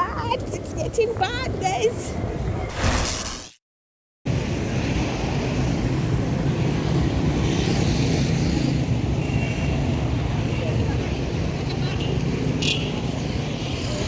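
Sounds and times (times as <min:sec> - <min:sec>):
city street traffic rumble: 0:00.0 - 0:02.7, 0:04.3 - 0:14.0.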